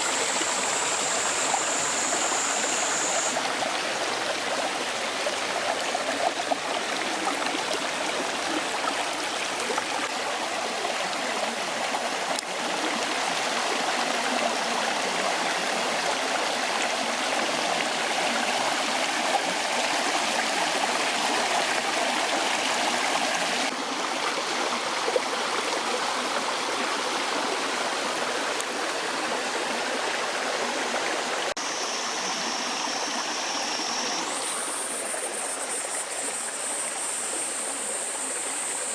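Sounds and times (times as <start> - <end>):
stream flowing water: 0.0 - 38.9.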